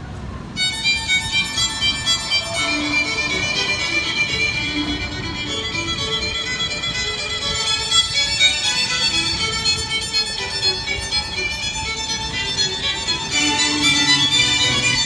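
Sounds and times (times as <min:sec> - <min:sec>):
string ensemble: 0:00.0 - 0:15.0
violin melody: 0:00.2 - 0:15.0.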